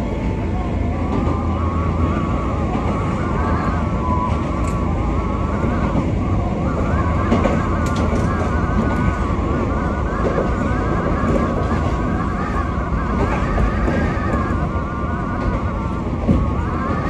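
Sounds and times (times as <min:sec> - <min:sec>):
train rumble with motor whine: 0:00.0 - 0:17.0.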